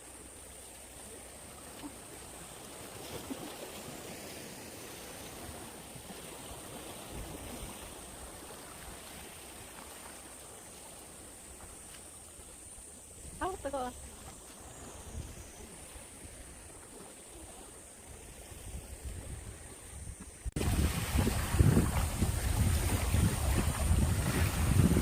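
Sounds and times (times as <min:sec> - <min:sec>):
faint rushing water: 0:00.0 - 0:25.0.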